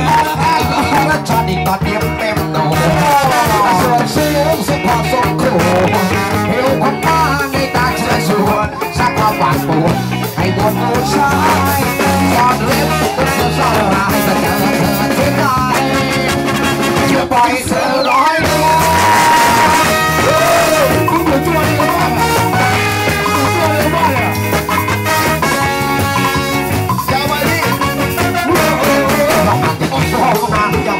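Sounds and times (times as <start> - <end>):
person singing: 0.0 - 30.9
ska band playing: 0.0 - 30.9.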